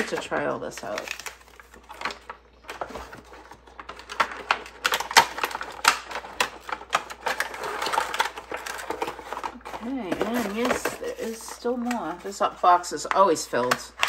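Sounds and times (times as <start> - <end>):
paper rustling: 0.0 - 13.8.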